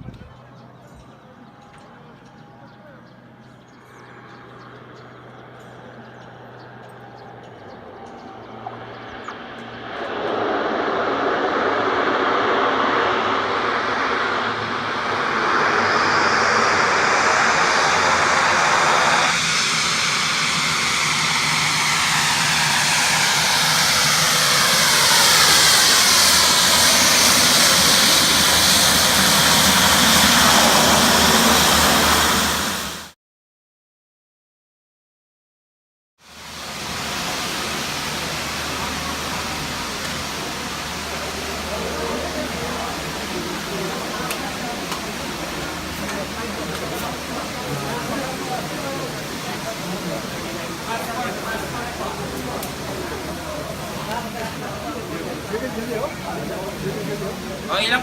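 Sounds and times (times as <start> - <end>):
small plane engines at high power: 0.0 - 33.2, 36.2 - 58.0.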